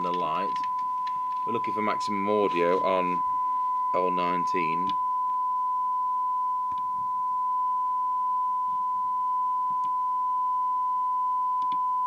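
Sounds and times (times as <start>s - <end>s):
steady test tone from speaker: 0.0s - 12.0s.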